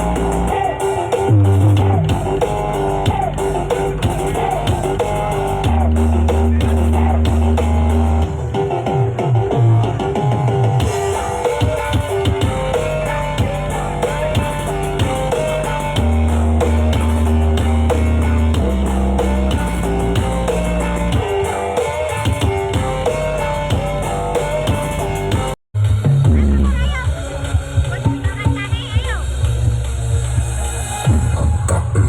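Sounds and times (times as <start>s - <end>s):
heavy bass notes: 0.0s - 32.0s
loud music over sound system: 0.0s - 32.0s.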